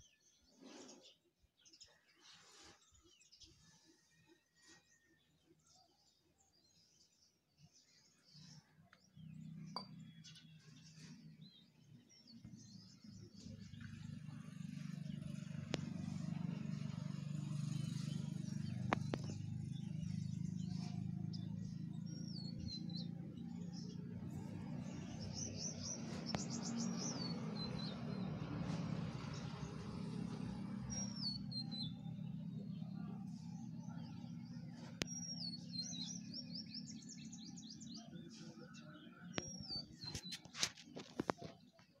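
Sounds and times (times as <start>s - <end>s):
birds chirping: 5.6s - 42.0s.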